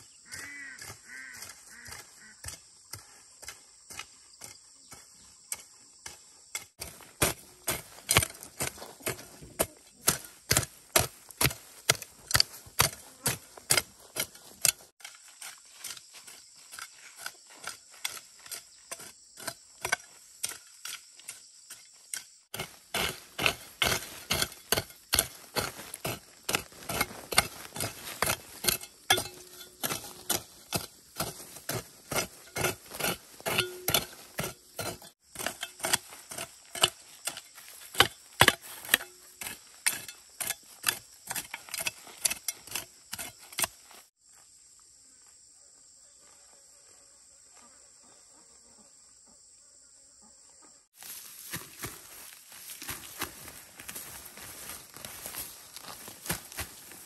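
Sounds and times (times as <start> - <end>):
hoe chopping into soil: 0.3 - 21.4, 22.2 - 43.8, 51.0 - 57.0.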